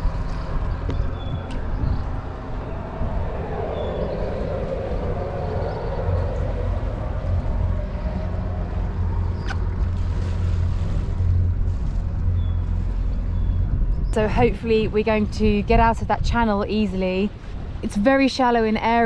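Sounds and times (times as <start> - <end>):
boat engine running: 0.0 - 16.6.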